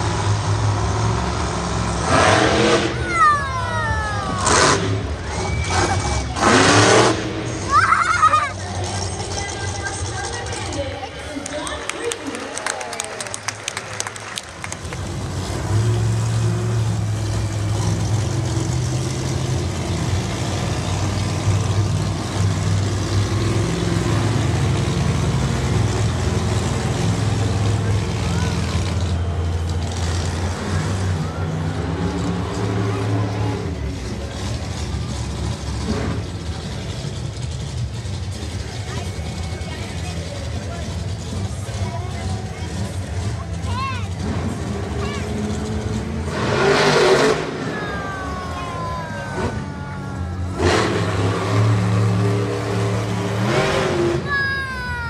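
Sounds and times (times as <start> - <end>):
truck engine revving: 0.0 - 54.7.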